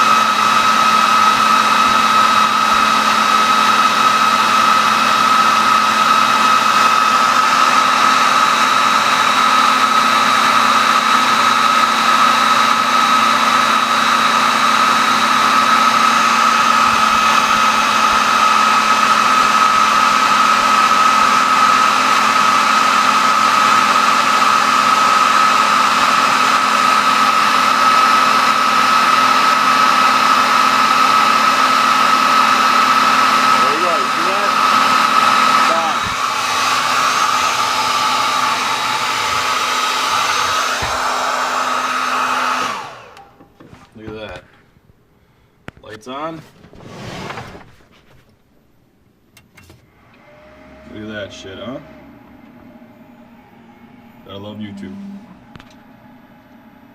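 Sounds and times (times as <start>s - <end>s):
hair dryer running: 0.0s - 44.6s, 49.8s - 56.9s.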